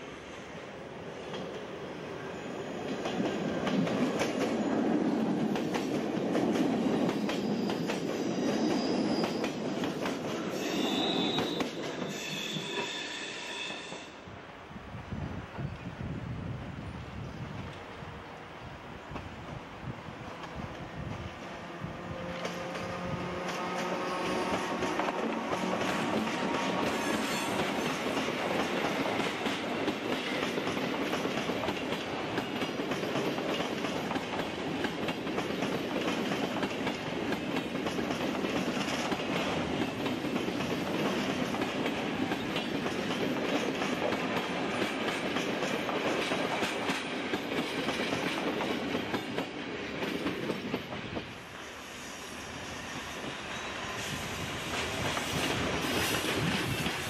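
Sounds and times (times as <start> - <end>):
approaching electric train: 0.0 - 57.0.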